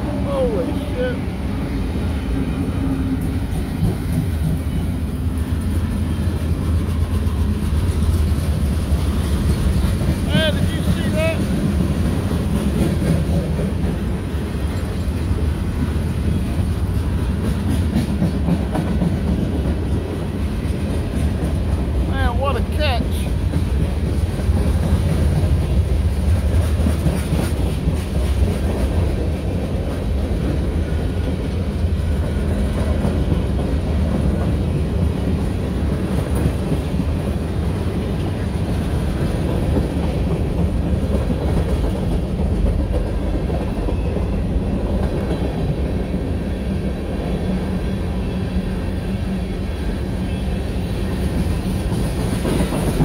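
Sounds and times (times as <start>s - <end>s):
clickety-clack over rail joints: 0.0s - 53.0s.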